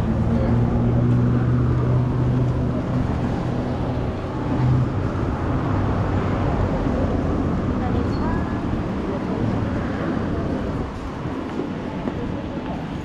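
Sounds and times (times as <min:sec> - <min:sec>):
street traffic: 0:00.0 - 0:13.0
vehicle engine humming: 0:00.0 - 0:13.0.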